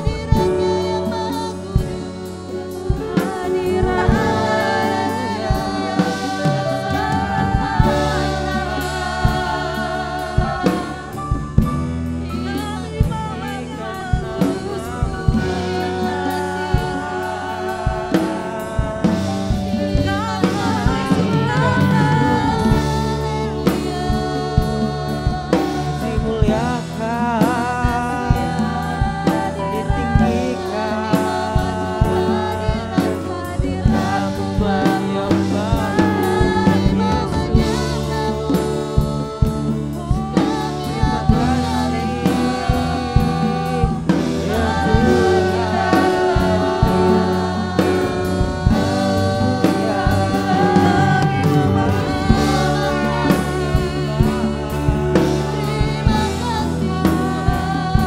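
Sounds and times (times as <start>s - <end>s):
drum kit beat: 0.0s - 58.0s
keyboard chords: 0.0s - 58.0s
live band playing: 0.0s - 58.0s
person singing: 0.0s - 58.0s.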